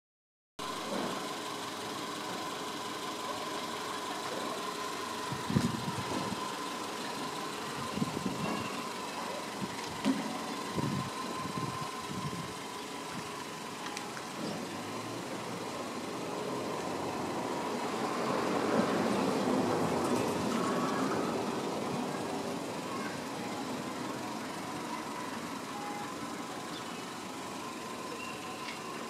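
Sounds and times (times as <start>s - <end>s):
car engine idling: 0.6s - 29.0s.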